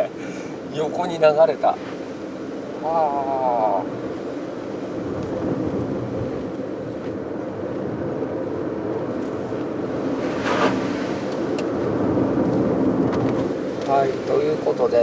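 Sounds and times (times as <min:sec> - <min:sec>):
car engine: 0:00.0 - 0:15.0
wet tyre noise: 0:00.0 - 0:15.0.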